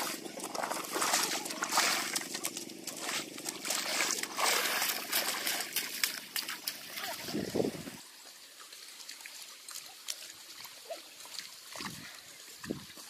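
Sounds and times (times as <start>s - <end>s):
muddy water sloshing: 0.0s - 8.0s, 8.7s - 13.0s.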